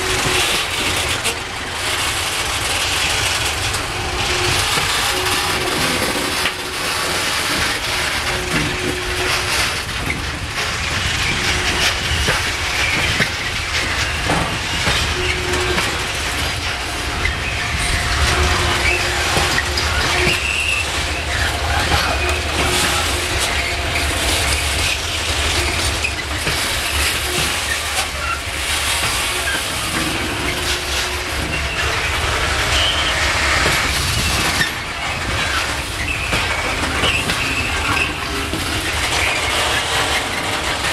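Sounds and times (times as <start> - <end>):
low train rumble: 0.0 - 40.9
train wheels clacking over rail joints: 0.0 - 40.9
wheel squeals: 0.0 - 40.9.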